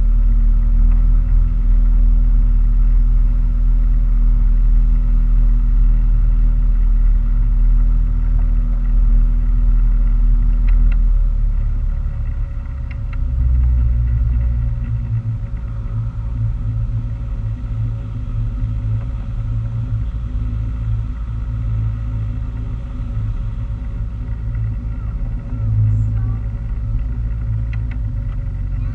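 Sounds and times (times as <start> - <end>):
boat engine rumbling: 0.0 - 28.9.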